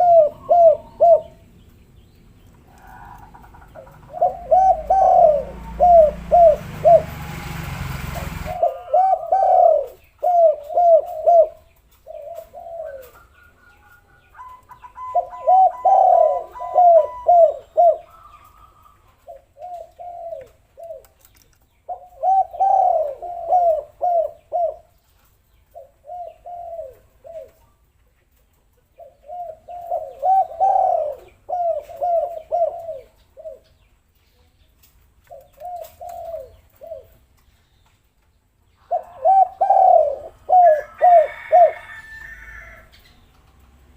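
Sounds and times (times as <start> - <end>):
doves cooing: 0.0 - 1.8, 2.4 - 27.8, 28.9 - 33.8, 35.3 - 37.4, 38.8 - 43.9.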